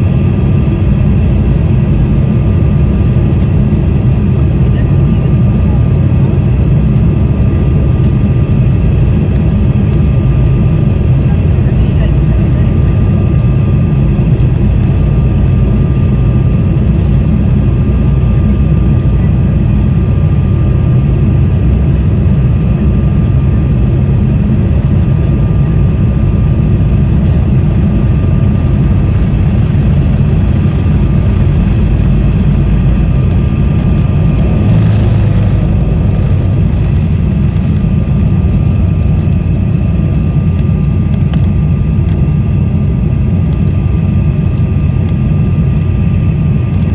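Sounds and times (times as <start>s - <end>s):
jet engines and airflow rumbling: 0.0s - 46.9s
thin steady whine: 6.4s - 46.9s.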